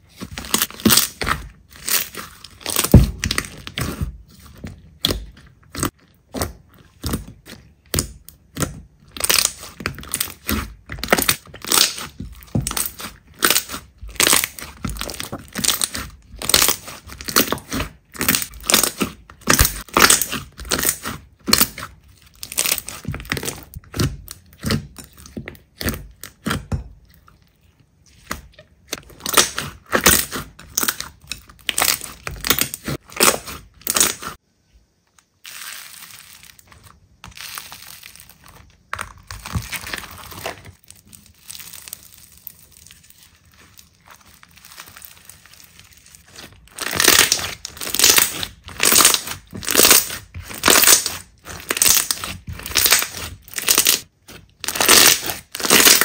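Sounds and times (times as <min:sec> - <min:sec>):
slime crackling and popping: 0:00.0 - 0:26.7, 0:28.1 - 0:34.4, 0:35.4 - 0:56.0.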